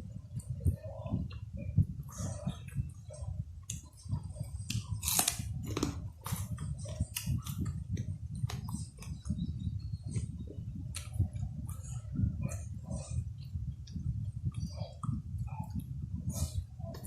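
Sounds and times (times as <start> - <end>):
chewing and crunching food: 0.2 - 17.0.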